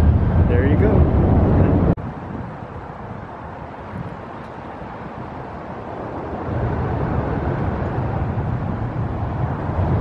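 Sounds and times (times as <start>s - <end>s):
highway traffic rumble: 0.0s - 10.0s.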